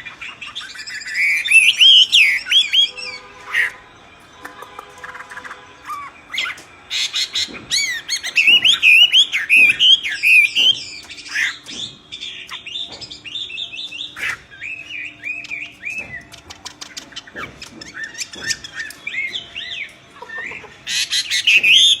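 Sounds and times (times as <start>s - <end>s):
myna bird calling: 0.0s - 22.0s.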